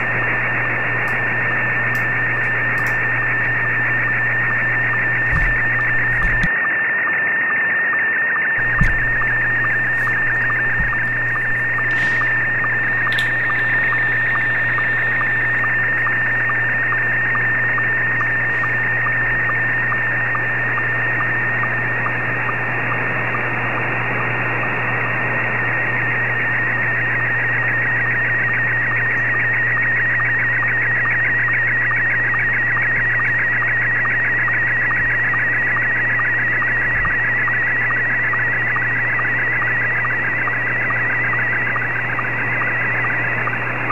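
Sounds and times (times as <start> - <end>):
short low sync blips: 0.0 - 6.5, 8.6 - 43.9
radio static hiss: 0.0 - 43.9
wavering radio signal tone: 0.0 - 43.9.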